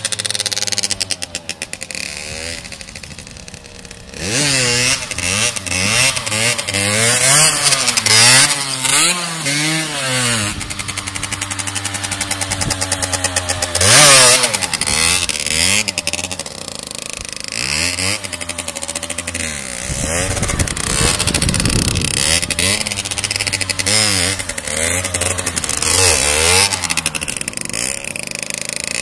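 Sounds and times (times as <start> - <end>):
small motorcycle engine revving: 0.0 - 29.0.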